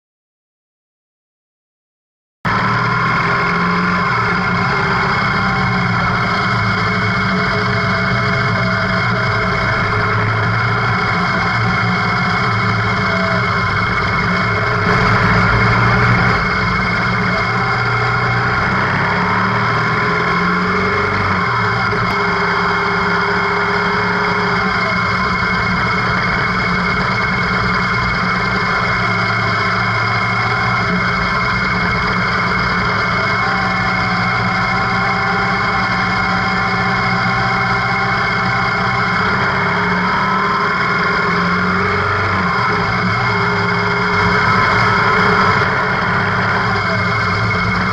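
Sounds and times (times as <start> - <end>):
motorcycle engine running: 2.5 - 47.9.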